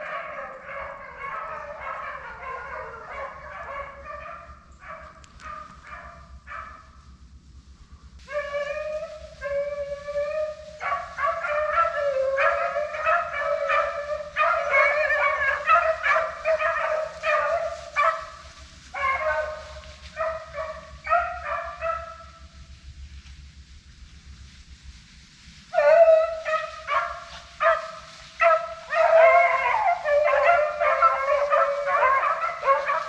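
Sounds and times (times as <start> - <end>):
hounds baying: 0.0 - 6.9, 8.3 - 22.5, 25.7 - 33.0.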